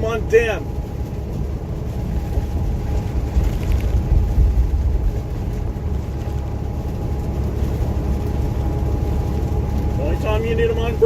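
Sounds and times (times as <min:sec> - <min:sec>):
truck engine rumble: 0:00.0 - 0:11.0
tyres on wet road: 0:00.0 - 0:11.0.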